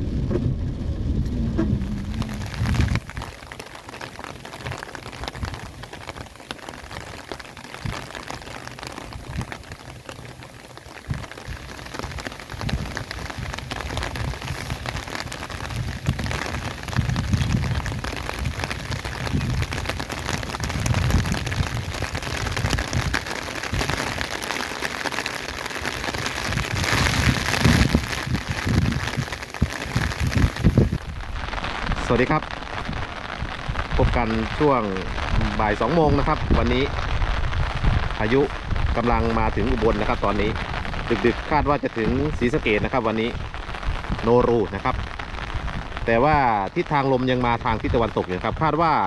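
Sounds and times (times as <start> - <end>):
low rumbling: 0.0 - 24.4, 25.3 - 46.8
steady rain falling: 0.0 - 49.0.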